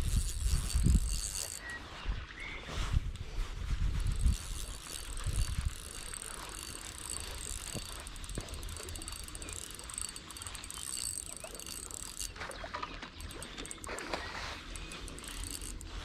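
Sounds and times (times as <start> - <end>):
fishing reel ticking: 0.0 - 2.0, 3.4 - 16.0.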